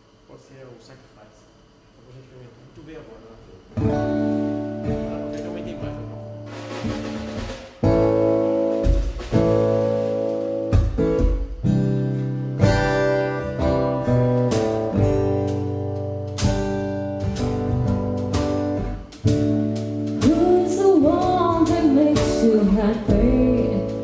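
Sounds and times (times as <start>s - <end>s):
acoustic guitar chords: 3.8s - 24.0s.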